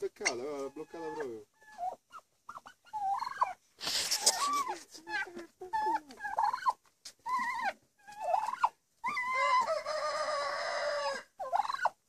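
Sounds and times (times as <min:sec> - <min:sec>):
turkeys calling: 0:00.0 - 0:12.0.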